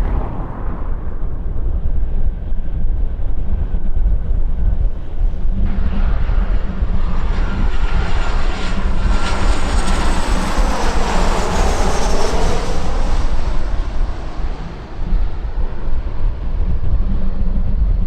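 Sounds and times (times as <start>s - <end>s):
jet airliner passing: 0.0s - 18.0s
wind on microphone: 0.0s - 18.0s.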